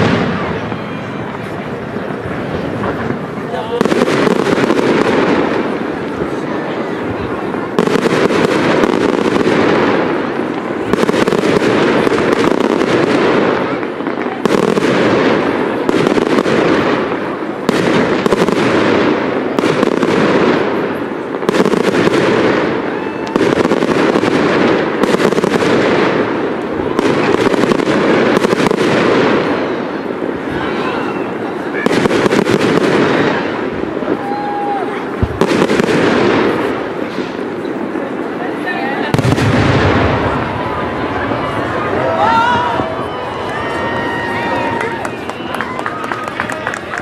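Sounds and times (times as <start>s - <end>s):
crackling firework stars: 0.0s - 47.0s
firework bangs: 0.0s - 47.0s.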